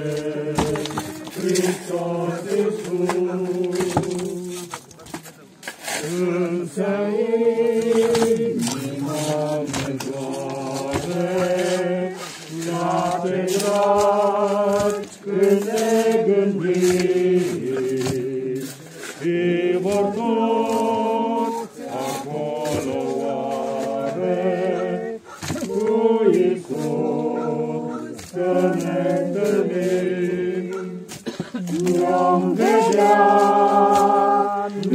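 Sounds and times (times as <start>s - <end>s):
voices singing a slow chant: 0.0s - 4.8s, 5.8s - 34.9s.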